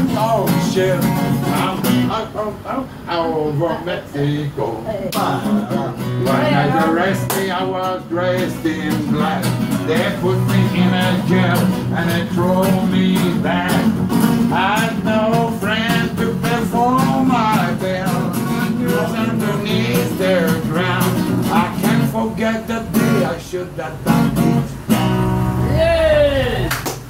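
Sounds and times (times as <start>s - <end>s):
acoustic guitar strumming: 0.0s - 2.7s, 5.1s - 26.7s
man singing: 0.0s - 24.9s.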